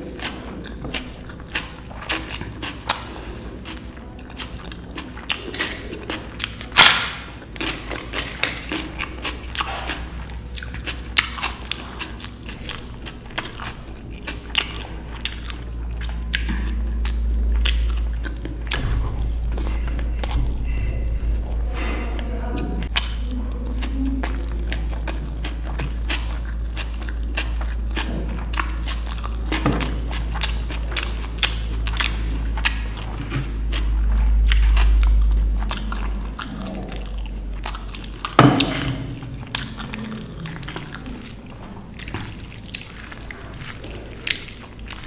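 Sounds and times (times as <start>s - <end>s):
chewing mouth sounds: 0.0s - 45.0s
low rumble: 0.0s - 45.0s.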